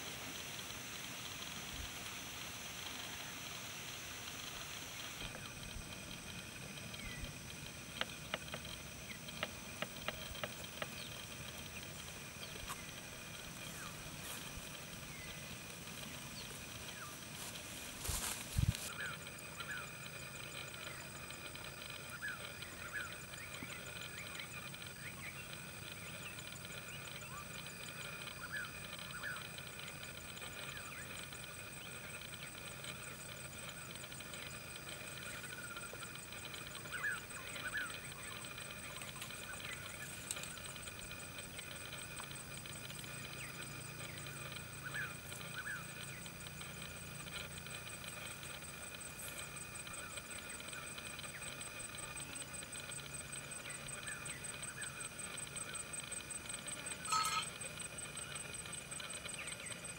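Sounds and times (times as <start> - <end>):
insect chorus trilling: 0.0 - 59.9.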